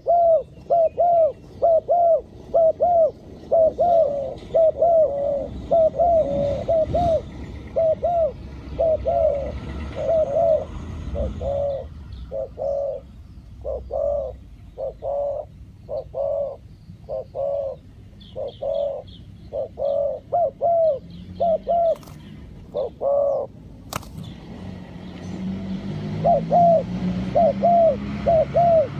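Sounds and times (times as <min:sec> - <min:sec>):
dove cooing: 0:00.0 - 0:23.6, 0:26.1 - 0:28.9.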